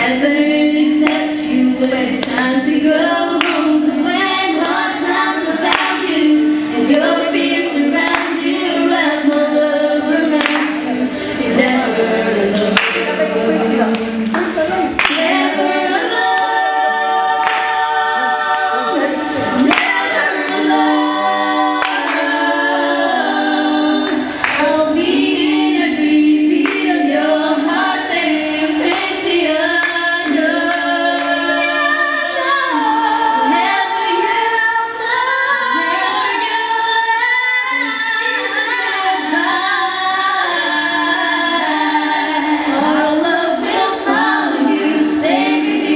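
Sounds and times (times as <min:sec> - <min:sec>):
women singing into microphones: 0:00.0 - 0:45.9.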